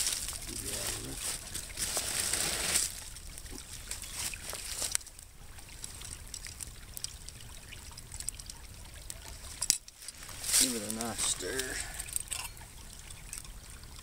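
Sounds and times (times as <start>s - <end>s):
campfire crackling and popping: 0.0s - 14.0s
water trickling: 0.0s - 14.0s.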